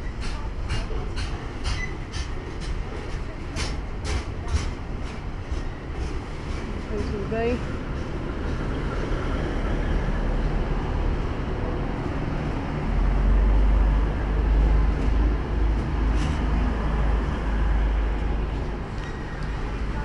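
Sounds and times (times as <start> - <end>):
train passing with rail noise: 0.0 - 20.0.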